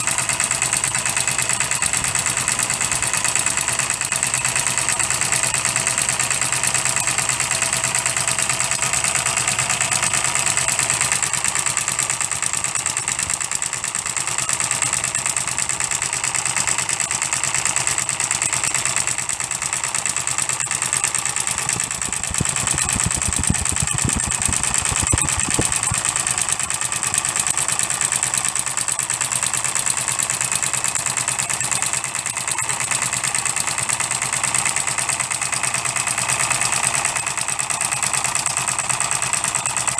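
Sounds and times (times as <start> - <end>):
model diesel engine running: 0.0 - 39.9.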